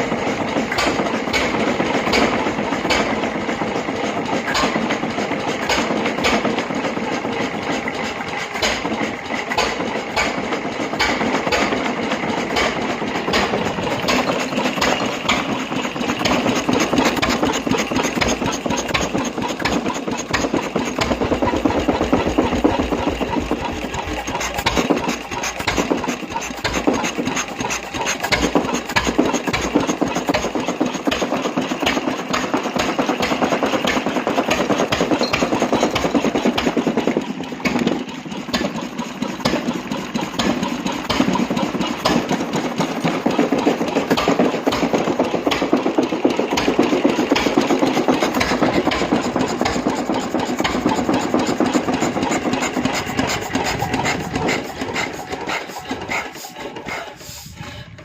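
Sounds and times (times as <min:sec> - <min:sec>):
engine running rapid firing: 0:00.0 - 0:57.8.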